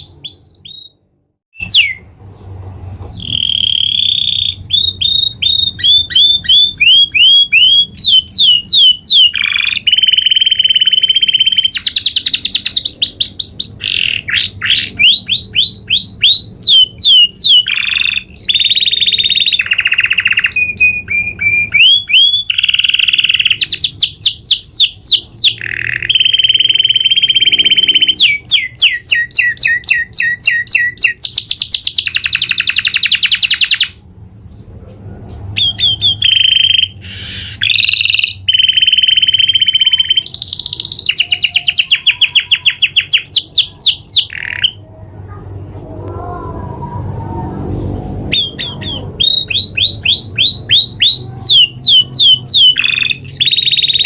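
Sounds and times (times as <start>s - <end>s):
canary singing with trills: 0.0s - 1.0s, 1.6s - 45.7s, 47.0s - 54.0s.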